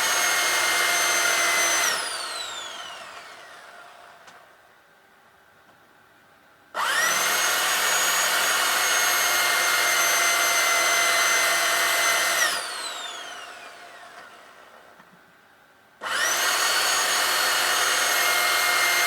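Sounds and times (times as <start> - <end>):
electric drill whining: 0.0 - 4.5, 6.8 - 15.0, 16.0 - 19.0.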